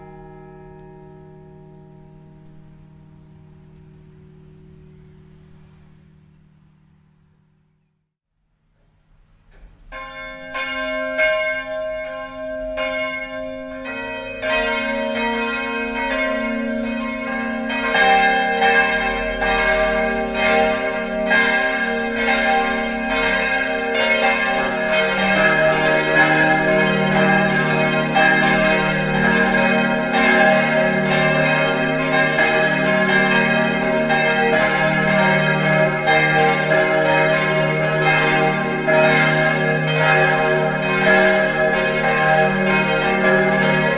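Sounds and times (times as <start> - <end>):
church bells ringing: 0.0 - 7.7, 9.5 - 43.9.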